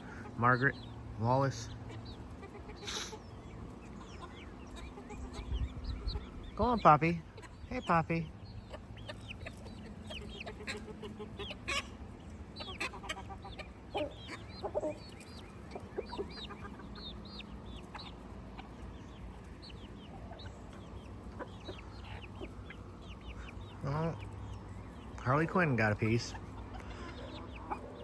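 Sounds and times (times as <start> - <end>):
chickens clucking and calling: 0.0 - 28.0.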